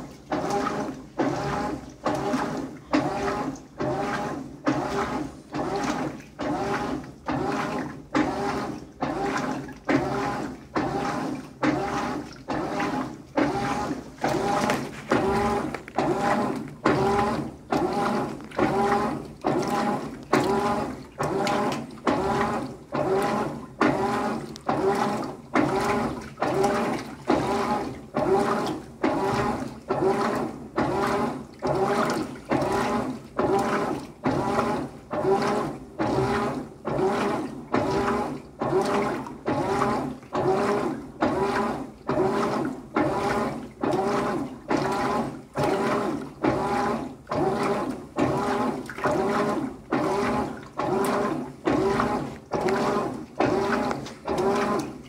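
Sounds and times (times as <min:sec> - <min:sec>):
washer motor whirring back and forth: 0:00.0 - 0:55.0
water swishing: 0:00.0 - 0:55.0.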